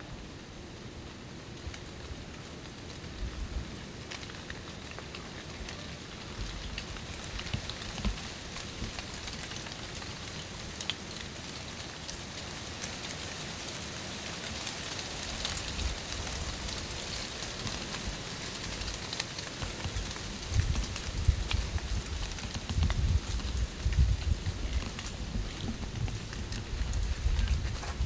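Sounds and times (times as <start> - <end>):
dry leaves rustling and crackling: 1.7 - 28.0.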